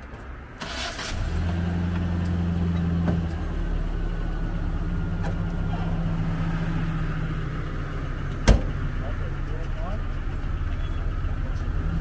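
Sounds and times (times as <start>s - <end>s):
truck engine idling: 1.9s - 12.0s.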